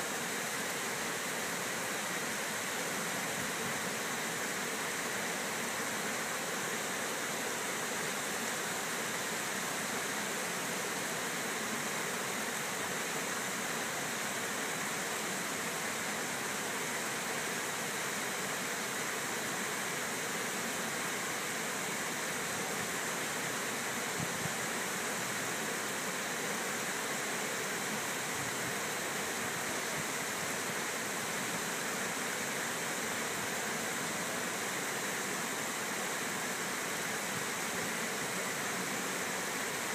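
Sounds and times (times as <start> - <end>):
water rushing over spillway: 0.0 - 39.9.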